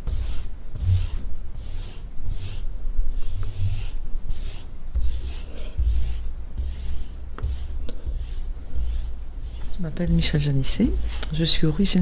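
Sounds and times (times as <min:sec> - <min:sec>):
hands rubbing soft clay: 0:00.0 - 0:12.0.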